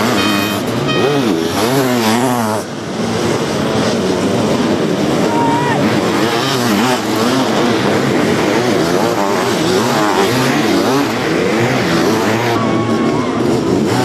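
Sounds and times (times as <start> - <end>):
racing motorcycle engines revving: 0.0 - 14.0.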